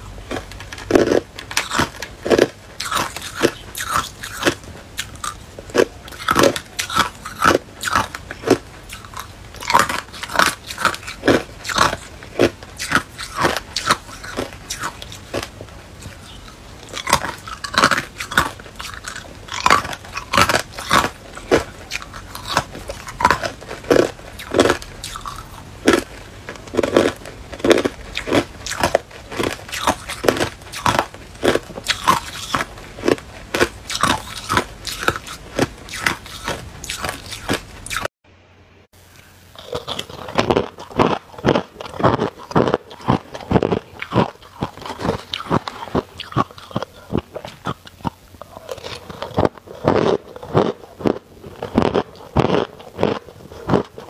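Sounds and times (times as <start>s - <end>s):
ice cubes crunching: 0.0s - 38.1s, 39.6s - 54.0s.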